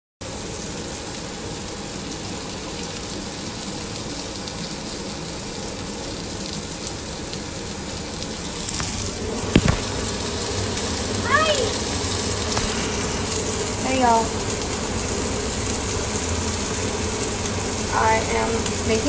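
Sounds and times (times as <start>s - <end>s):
food sizzling in a pan: 0.2s - 19.0s.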